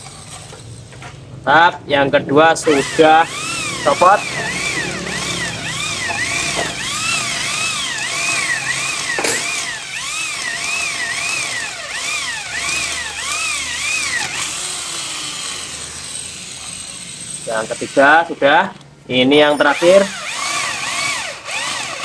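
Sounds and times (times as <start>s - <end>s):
electric drill drilling metal: 2.6s - 18.8s, 19.5s - 22.0s.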